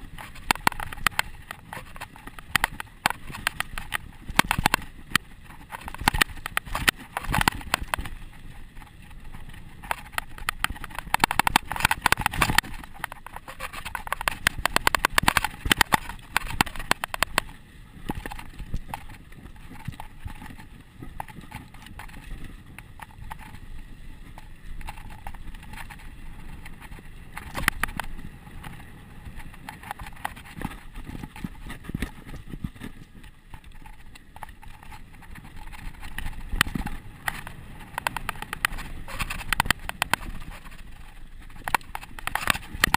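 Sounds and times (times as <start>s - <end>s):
bike frame clattering and rattling: 0.0s - 42.9s
bike tyres on loose dirt: 0.0s - 42.9s.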